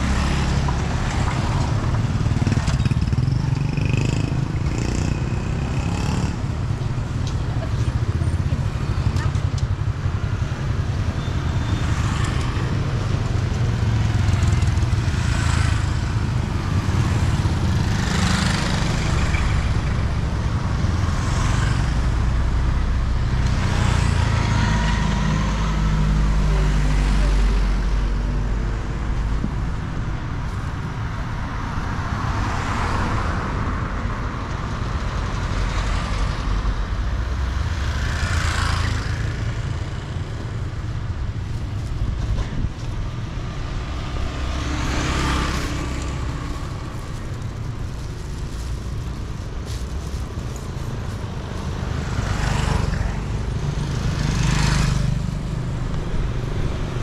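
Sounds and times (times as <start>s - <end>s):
low engine rumble of traffic: 0.0s - 57.0s
vehicles passing: 0.0s - 57.0s.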